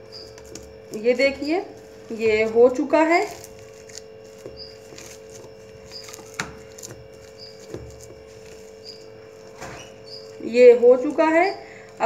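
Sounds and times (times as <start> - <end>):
hands kneading dough squishing: 0.0 - 12.0
steady hum: 0.0 - 12.0.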